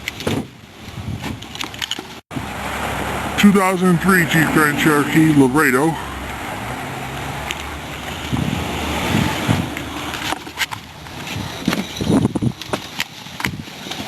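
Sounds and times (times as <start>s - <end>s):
car engine cranking and running: 1.6s - 13.4s.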